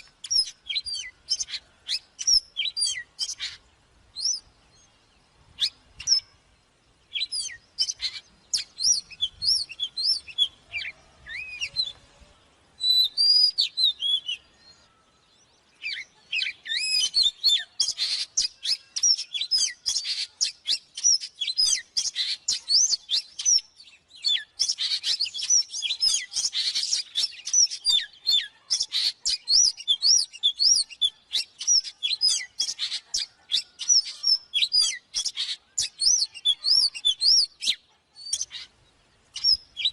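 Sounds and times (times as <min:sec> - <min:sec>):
bird song whistles and chirps: 0:00.0 - 0:39.9.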